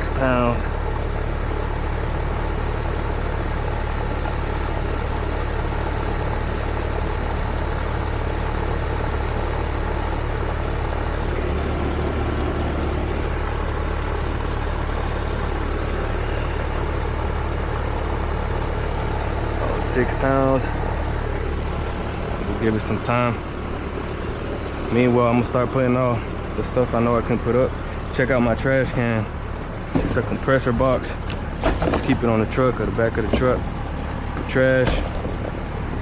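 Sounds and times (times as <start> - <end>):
heat pump compressor and fan humming: 0.0 - 36.0.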